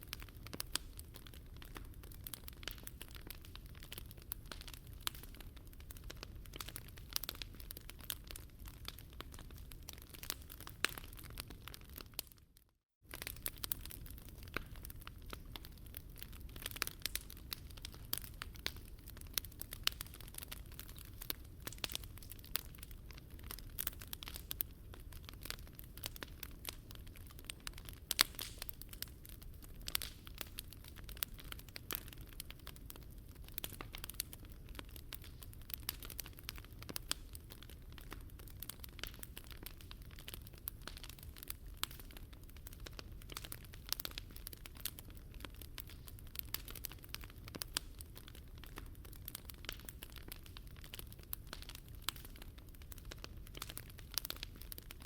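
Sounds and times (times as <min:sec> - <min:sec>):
low rumble of fire: 0:00.0 - 0:12.4, 0:13.1 - 0:55.0
fire crackling and popping: 0:00.0 - 0:55.0.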